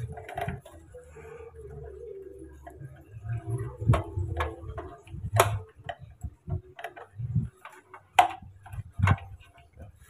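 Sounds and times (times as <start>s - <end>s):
clicks and knocks of handled parts: 0.0s - 1.2s, 2.6s - 10.0s.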